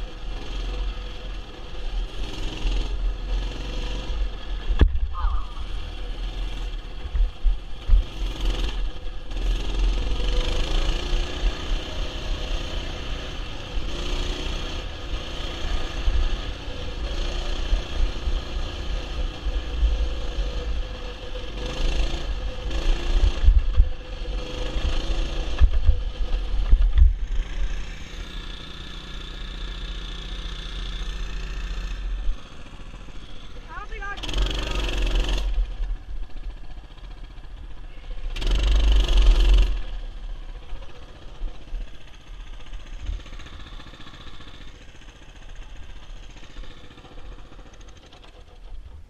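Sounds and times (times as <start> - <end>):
mini bike engine running: 0.0 - 49.0.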